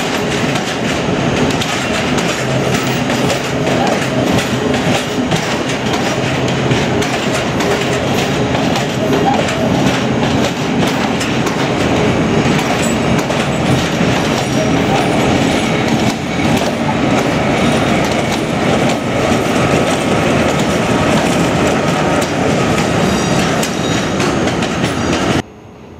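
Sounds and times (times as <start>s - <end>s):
wheels clicking over rail joints: 0.0s - 25.4s
train rolling rumble: 0.0s - 25.5s.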